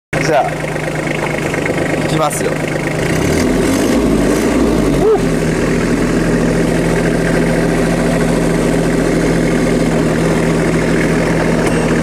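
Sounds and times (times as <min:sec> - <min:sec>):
tractor diesel engine running: 0:00.2 - 0:12.0.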